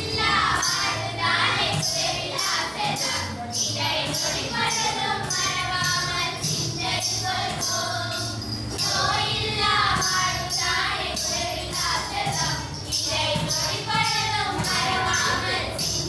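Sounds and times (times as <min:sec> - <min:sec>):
children singing in chorus: 0:00.0 - 0:16.0
jingling bells struck in beat: 0:00.0 - 0:16.0.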